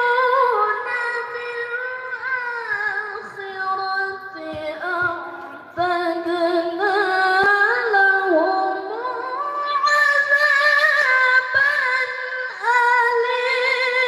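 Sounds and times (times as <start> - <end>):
melodic recitation in a high voice: 0.0 - 14.0.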